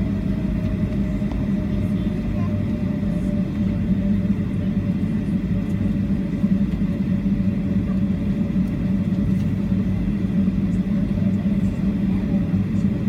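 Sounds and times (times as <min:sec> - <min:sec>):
jet engines humming in cabin: 0:00.0 - 0:13.0.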